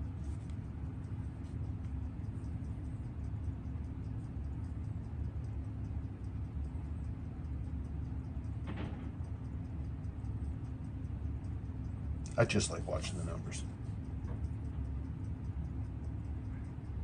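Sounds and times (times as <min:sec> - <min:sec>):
steady low hum: 0:00.0 - 0:17.0
watch ticking rapidly: 0:00.0 - 0:17.0.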